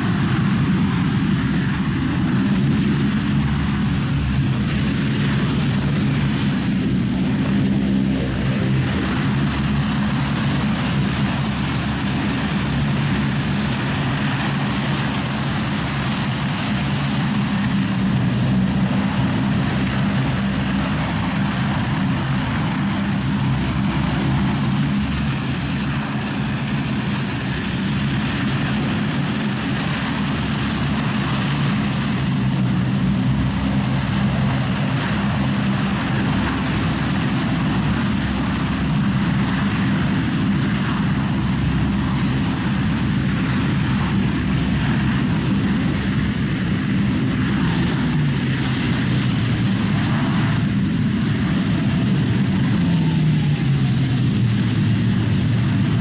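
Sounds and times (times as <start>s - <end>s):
turboprop engines droning: 0.0s - 56.0s.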